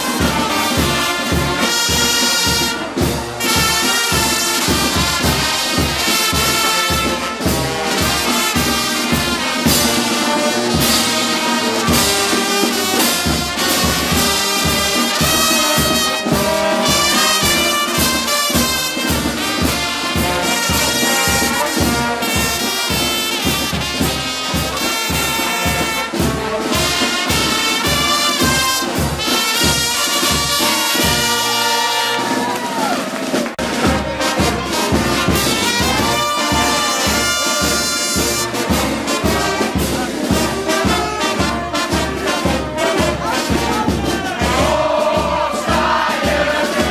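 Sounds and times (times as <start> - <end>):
brass band music: 0.0 - 46.9
steady drum beat: 0.0 - 46.9.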